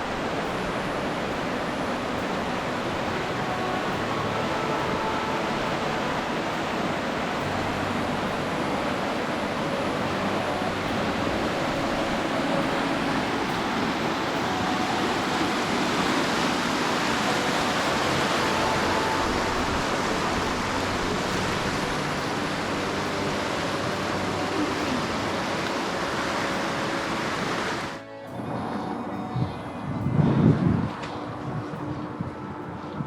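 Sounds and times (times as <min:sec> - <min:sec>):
waterfall rushing: 0:00.0 - 0:32.2.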